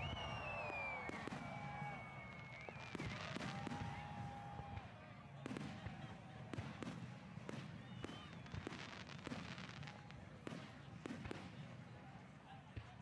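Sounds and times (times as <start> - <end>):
murmur of spectators' voices: 0.0 - 13.0.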